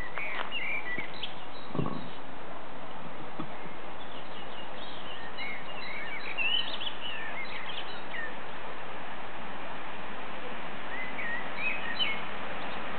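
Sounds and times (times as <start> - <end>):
birds chirping: 0.0 - 8.7, 10.8 - 12.9
background hiss: 0.0 - 12.9.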